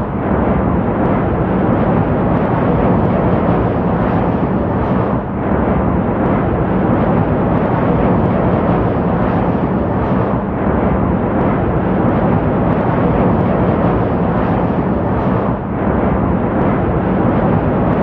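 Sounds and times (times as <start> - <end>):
jet airliner roar: 0.0 - 18.0.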